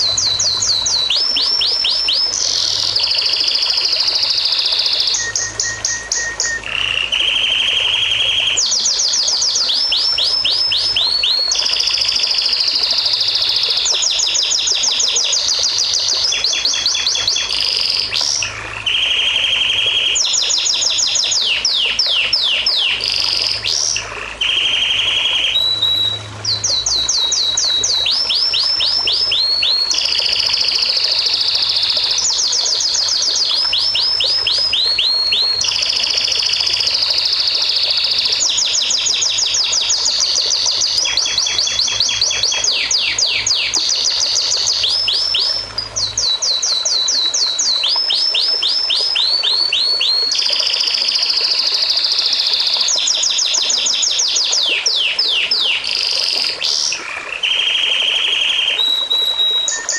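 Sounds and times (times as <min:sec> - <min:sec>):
songbird singing trills: 0:00.0 - 0:59.9.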